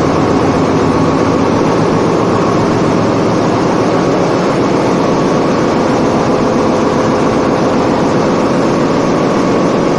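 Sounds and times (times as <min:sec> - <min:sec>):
machinery drone: 0:00.0 - 0:09.9.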